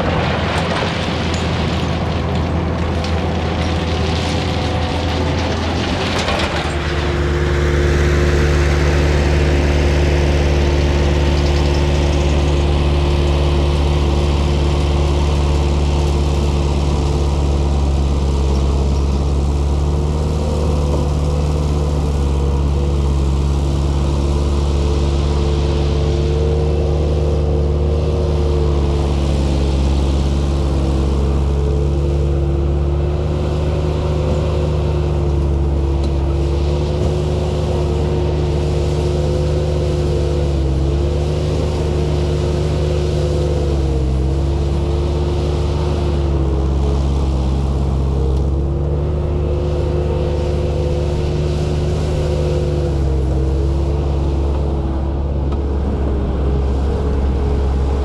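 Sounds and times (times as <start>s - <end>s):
heavy machine engine droning: 0.0s - 58.0s.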